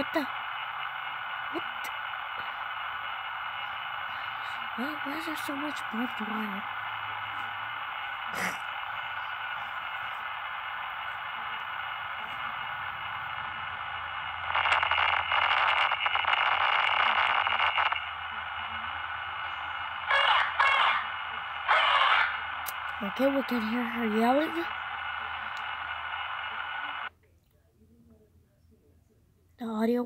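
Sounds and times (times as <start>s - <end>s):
harsh distorted sound: 0.0s - 27.1s
static hiss: 0.0s - 27.1s.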